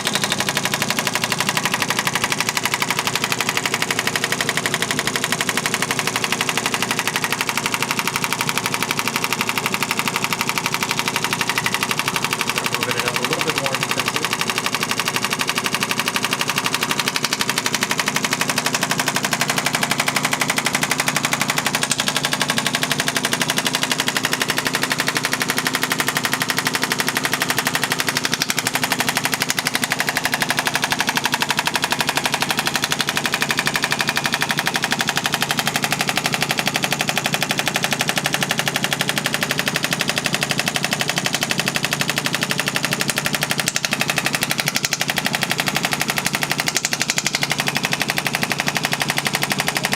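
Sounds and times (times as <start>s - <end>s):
shockwave applicator rapid clicks: 0.0s - 49.9s.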